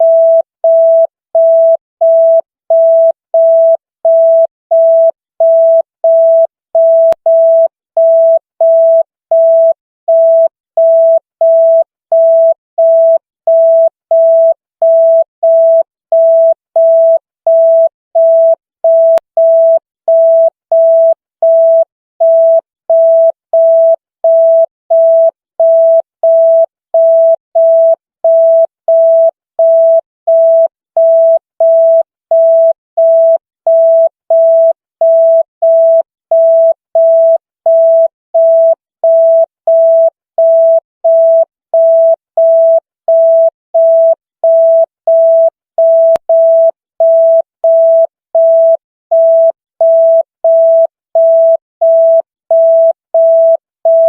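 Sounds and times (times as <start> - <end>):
telephone busy tone beeps: 0.0 - 54.0.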